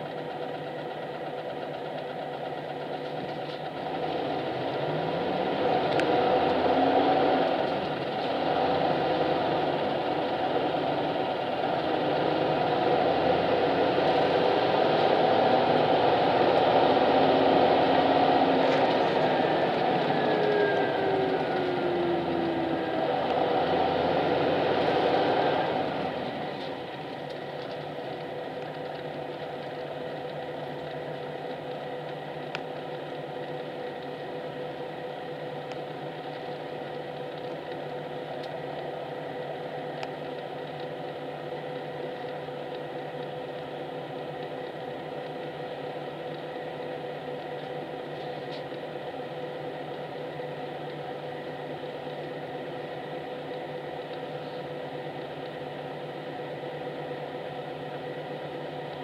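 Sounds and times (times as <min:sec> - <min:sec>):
bus engine and cabin noise: 0:00.0 - 0:59.0.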